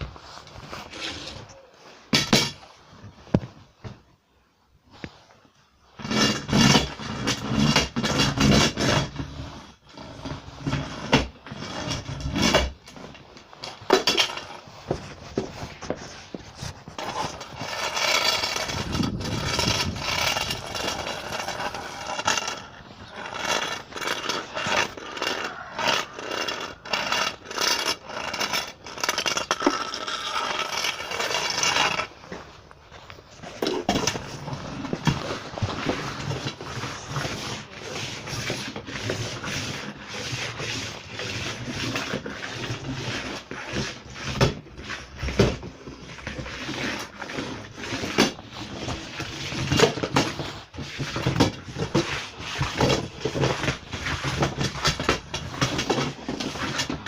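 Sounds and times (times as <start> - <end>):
hard parts scraping and knocking: 6.0 - 57.0.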